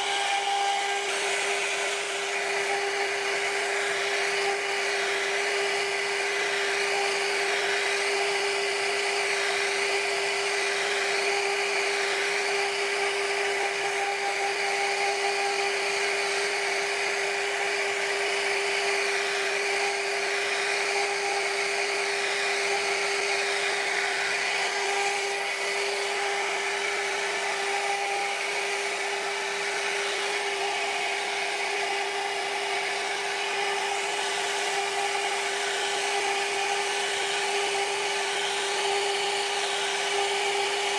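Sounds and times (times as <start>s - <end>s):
router spindle whine: 0.0s - 40.9s.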